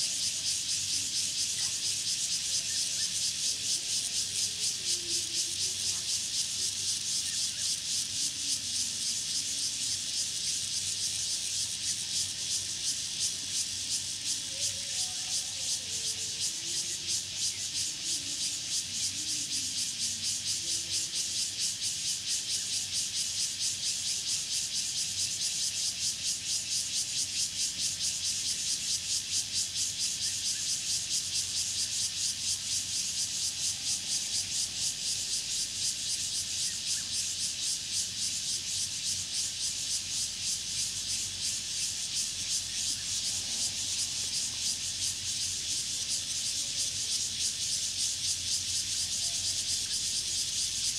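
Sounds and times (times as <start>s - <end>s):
cicadas and insects chorus: 0.0s - 50.9s.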